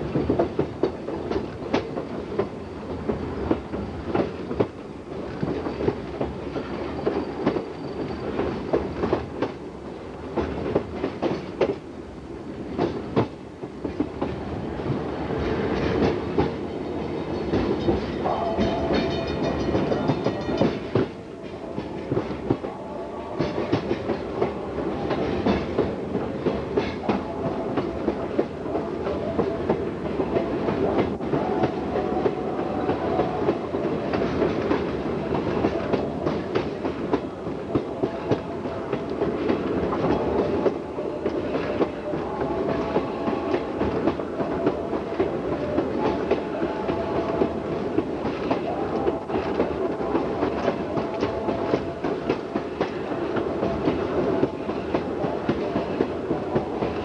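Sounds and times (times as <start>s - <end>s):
train wheels rolling over track: 0.0s - 57.0s.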